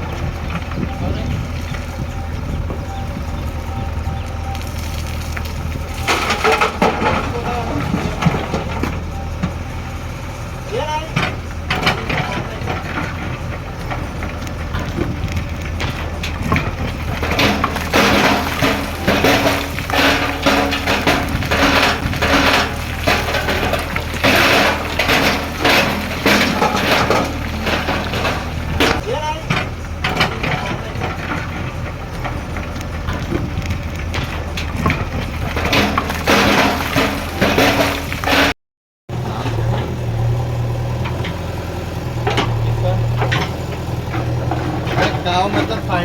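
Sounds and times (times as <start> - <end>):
clatter and knocks: 0.0 - 10.4, 11.1 - 38.6, 41.0 - 46.0
crunching and clanking: 0.0 - 46.0
diesel engine running: 0.0 - 46.0.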